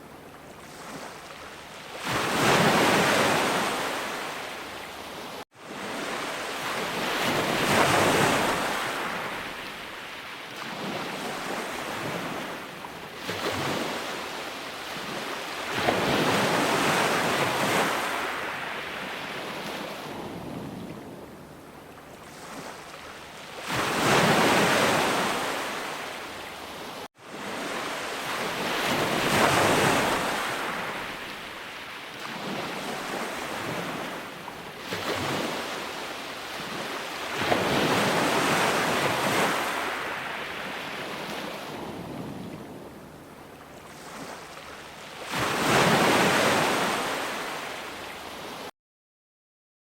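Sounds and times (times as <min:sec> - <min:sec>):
ocean waves breaking: 0:00.0 - 0:48.7.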